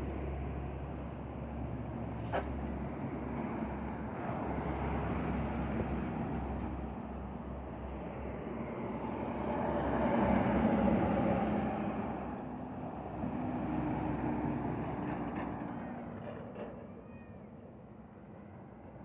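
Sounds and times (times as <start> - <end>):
diesel trucks driving past: 0.0 - 19.0.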